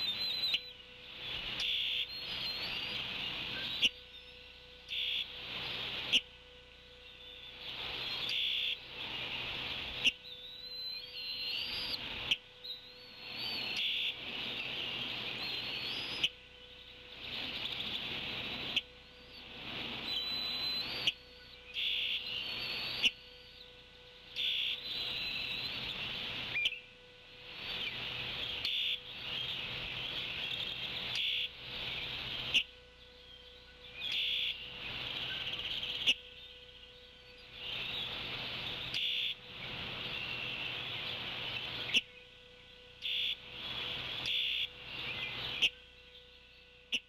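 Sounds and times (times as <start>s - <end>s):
birdsong: 0.0s - 47.0s
faint steady hum: 0.0s - 47.0s.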